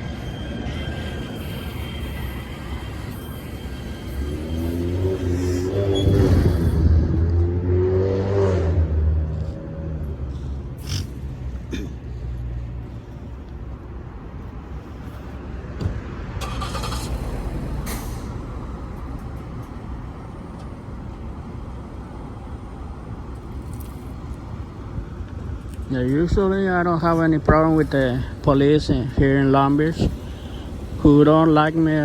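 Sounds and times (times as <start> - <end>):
heavy vehicle engine running: 0.0 - 7.9, 8.6 - 25.6, 27.2 - 32.0.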